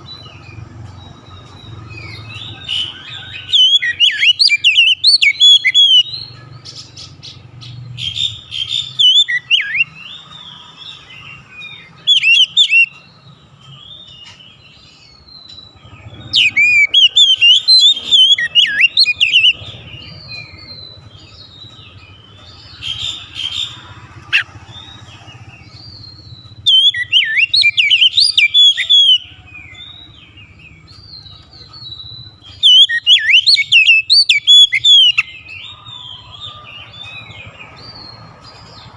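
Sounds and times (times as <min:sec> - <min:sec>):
bird whistled song phrases: 0:00.0 - 0:06.3, 0:08.0 - 0:13.1, 0:14.0 - 0:38.1.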